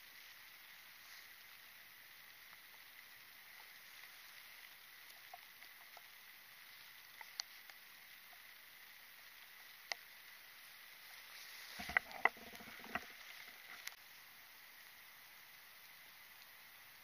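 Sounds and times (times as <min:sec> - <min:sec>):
faint steady hiss: 0:00.0 - 0:17.0
small ticks: 0:00.0 - 0:17.0.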